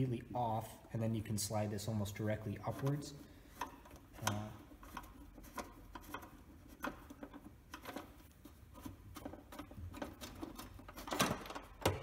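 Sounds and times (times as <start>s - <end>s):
hands clicking and scraping metal: 2.1s - 12.0s.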